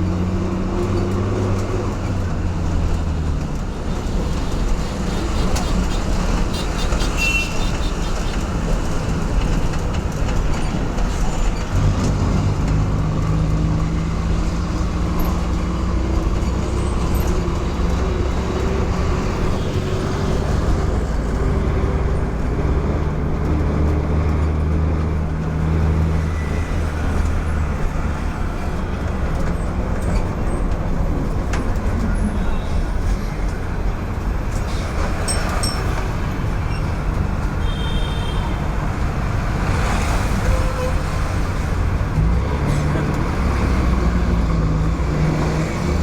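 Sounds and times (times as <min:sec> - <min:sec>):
bus engine drone: 0:00.0 - 0:46.0
road rumble: 0:00.0 - 0:46.0.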